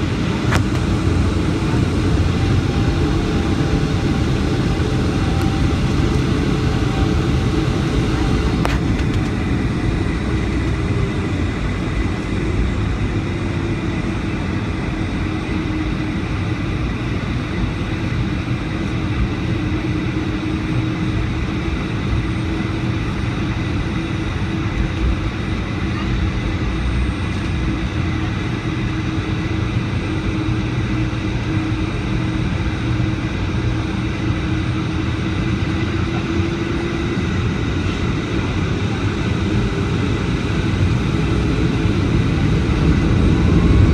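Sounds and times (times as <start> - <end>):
jet engine drone and airflow: 0.0 - 43.9.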